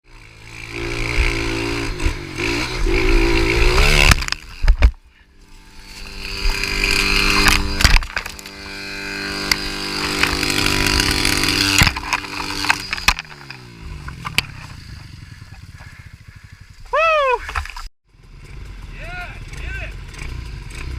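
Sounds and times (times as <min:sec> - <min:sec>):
small motorbike engine revving: 0:00.1 - 0:20.9.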